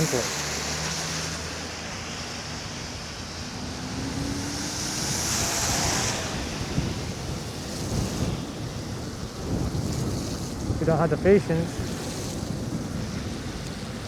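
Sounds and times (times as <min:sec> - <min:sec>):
wind buffeting microphone: 0:02.6 - 0:14.0.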